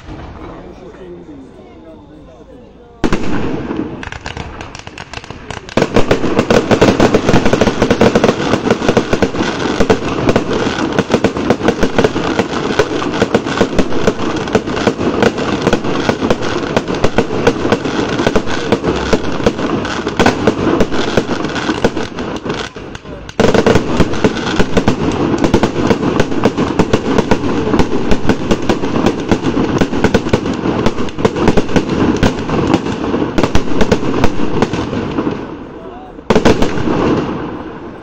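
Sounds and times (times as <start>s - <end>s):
fireworks bangs and crackles: 0.0s - 2.1s, 3.0s - 38.0s.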